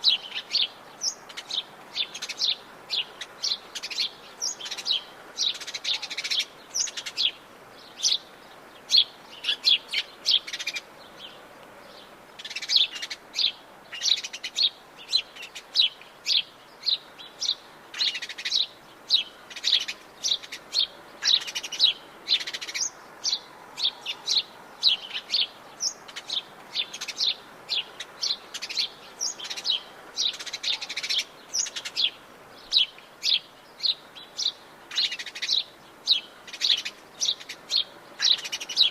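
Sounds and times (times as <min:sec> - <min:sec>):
birds chirping and singing: 0:00.0 - 0:38.9
faint steady hiss: 0:00.0 - 0:38.9.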